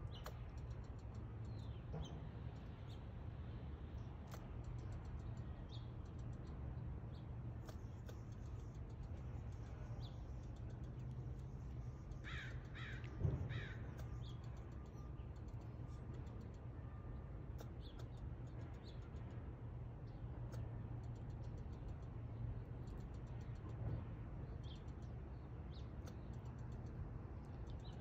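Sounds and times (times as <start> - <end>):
squirrel ticking chucks: 0.0 - 28.0.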